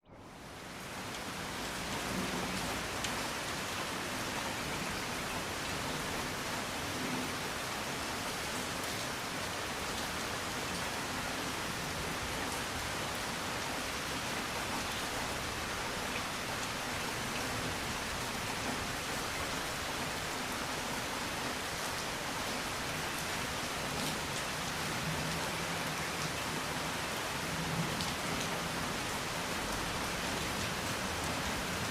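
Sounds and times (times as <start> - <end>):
steady rain hissing: 0.1 - 31.9.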